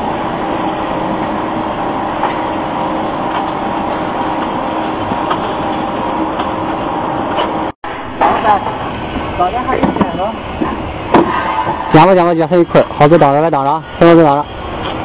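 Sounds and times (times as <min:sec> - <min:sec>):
belt conveyor running: 0:00.0 - 0:15.0.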